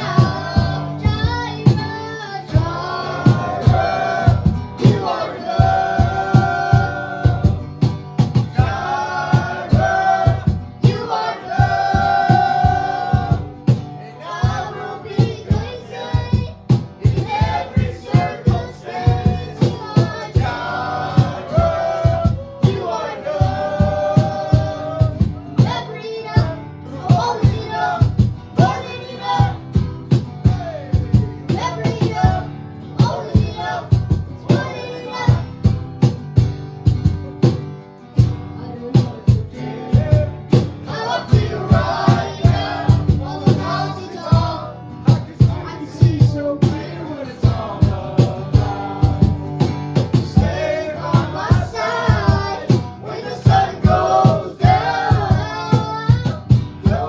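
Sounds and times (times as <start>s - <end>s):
people singing: 0.0s - 37.6s, 38.5s - 57.0s
steady drum beat: 0.0s - 57.0s
worship band music: 0.0s - 57.0s.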